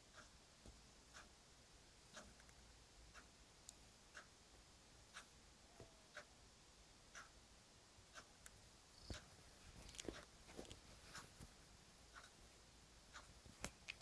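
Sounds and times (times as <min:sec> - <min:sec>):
faint clock ticking: 0:00.0 - 0:14.0.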